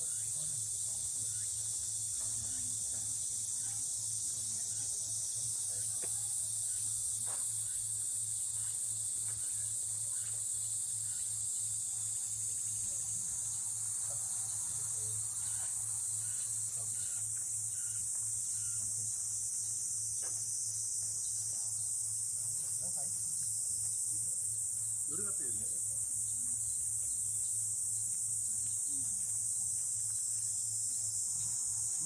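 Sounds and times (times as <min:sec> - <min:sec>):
insects shrilling: 0:00.0 - 0:32.0.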